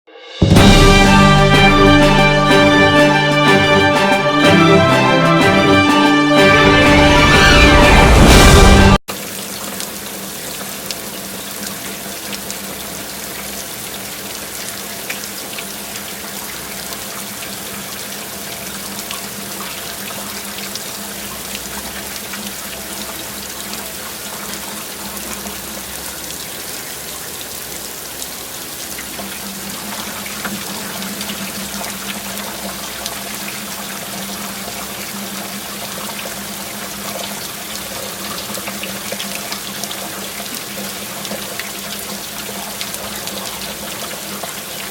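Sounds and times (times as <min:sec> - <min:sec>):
heavy rain: 0:00.4 - 0:44.9.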